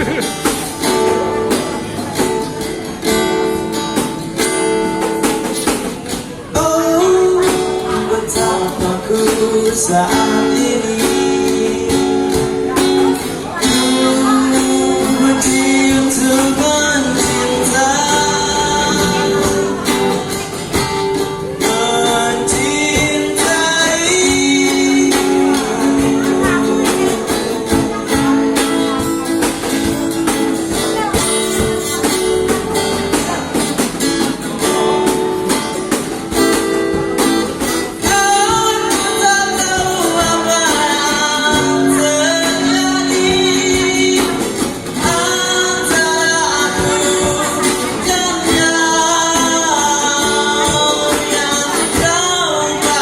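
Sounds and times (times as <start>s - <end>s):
acoustic guitar strumming chords: 0.0s - 53.0s.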